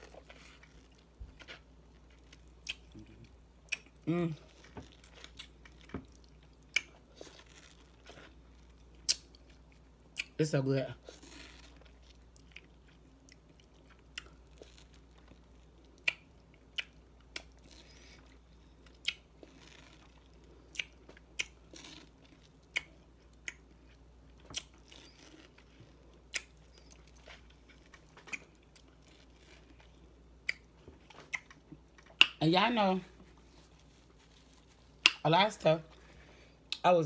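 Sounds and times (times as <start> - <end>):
person chewing fruit: 0.0 - 10.4, 11.0 - 32.4.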